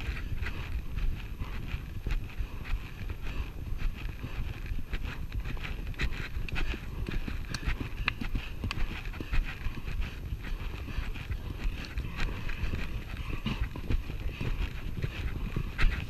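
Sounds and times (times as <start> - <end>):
hoofbeats on grass: 0.0 - 16.0.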